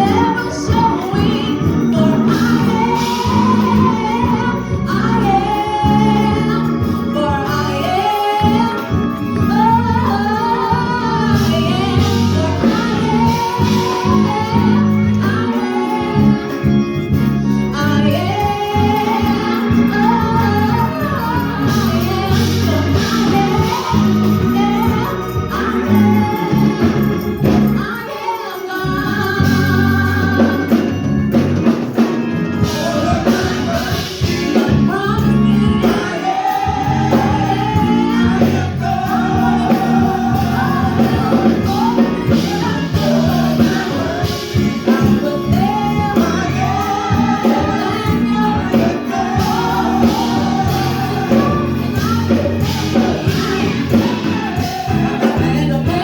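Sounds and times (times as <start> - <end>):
band accompaniment with bass: 0.0 - 56.0
voices singing gospel: 0.0 - 56.0.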